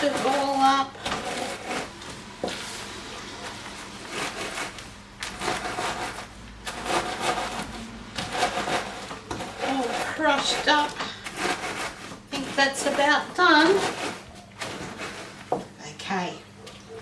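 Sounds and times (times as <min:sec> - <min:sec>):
plastic bag rustling: 0:00.0 - 0:15.8.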